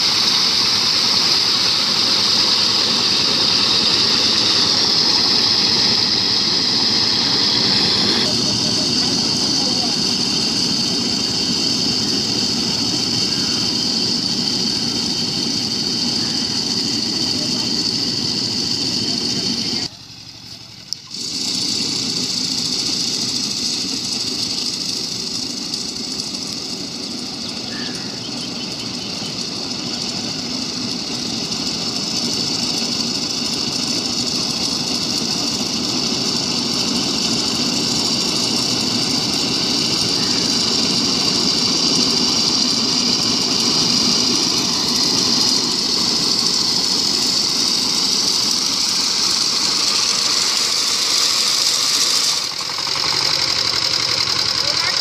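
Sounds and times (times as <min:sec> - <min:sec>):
reaper engine running under load: 0:00.0 - 0:55.0.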